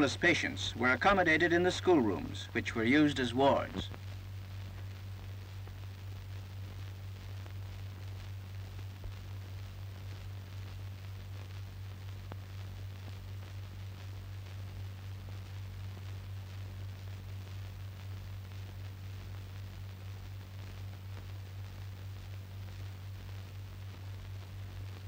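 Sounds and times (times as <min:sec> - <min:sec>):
low hum with crackling hiss: 0:00.0 - 0:25.0.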